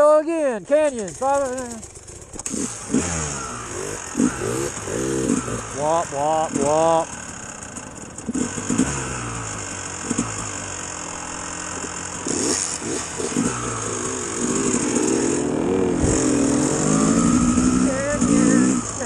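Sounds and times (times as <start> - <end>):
dirt bike engine revving: 0.7 - 19.0.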